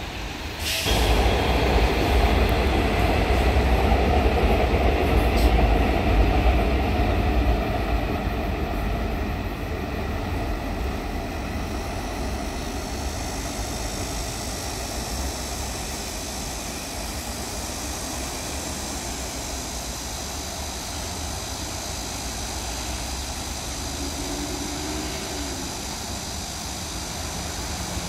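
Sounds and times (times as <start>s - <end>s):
road traffic hum: 0.0s - 28.0s.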